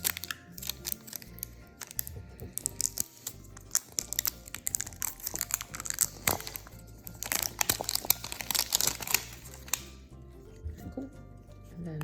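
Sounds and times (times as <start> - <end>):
packaging crinkling and tearing: 0.0 - 10.0
soft background music: 0.0 - 12.0.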